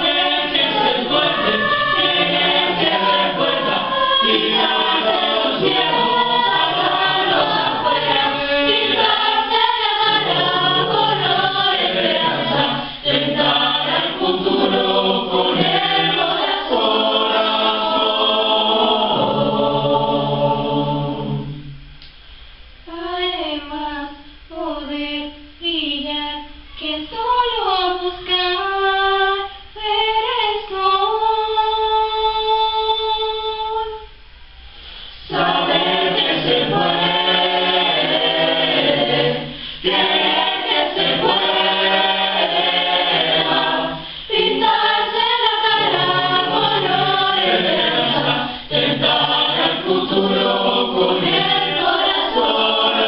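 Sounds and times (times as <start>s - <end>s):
choir singing a cappella: 0.0s - 22.0s, 22.9s - 34.2s, 34.8s - 53.0s.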